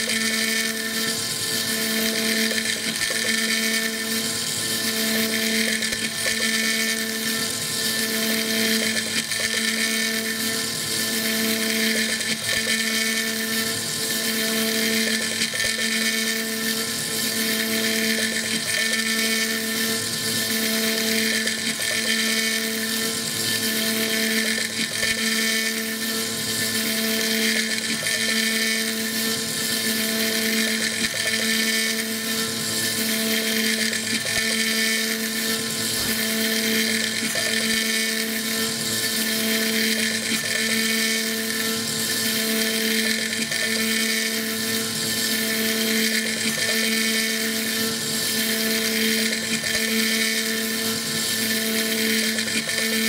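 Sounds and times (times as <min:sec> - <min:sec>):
cnc mill spindle whine: 0:00.0 - 0:53.0.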